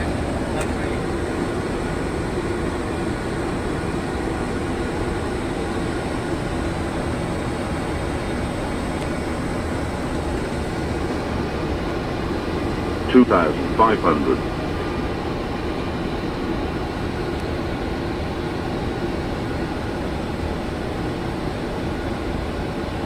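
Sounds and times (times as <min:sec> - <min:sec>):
airflow and engine noise: 0:00.0 - 0:23.0.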